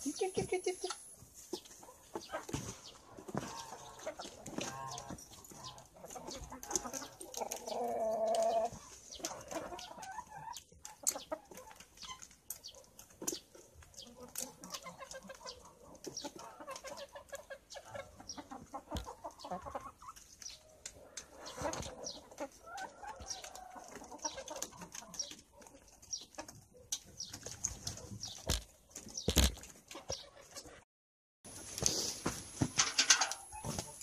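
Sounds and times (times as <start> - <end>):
chickens clucking: 0.0 - 30.8, 31.7 - 34.0.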